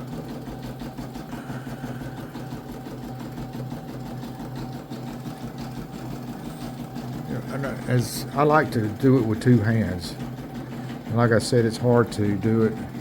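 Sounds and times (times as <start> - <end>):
embroidery machine needle stitching: 0.0 - 13.0
motor hum: 0.0 - 13.0.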